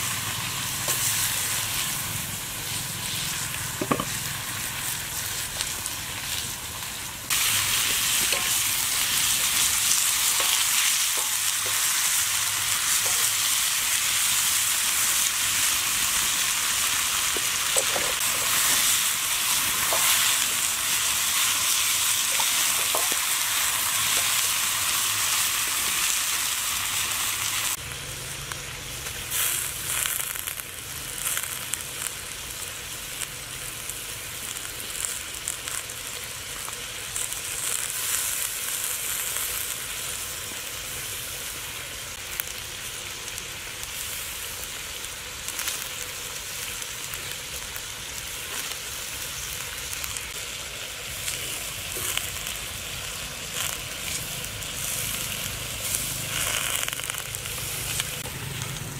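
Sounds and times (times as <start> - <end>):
bird frying in a wok: 0.0 - 58.9.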